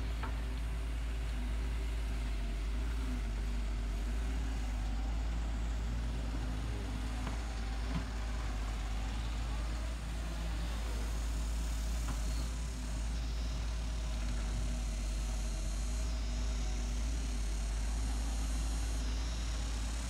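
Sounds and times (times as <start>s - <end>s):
diesel engine rumbling: 0.0s - 20.0s.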